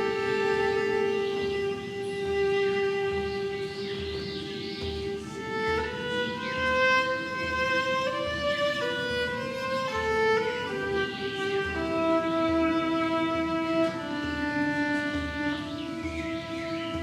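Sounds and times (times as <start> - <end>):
soft steady low beat: 0.0 - 17.0
violin slow melody: 0.0 - 17.0.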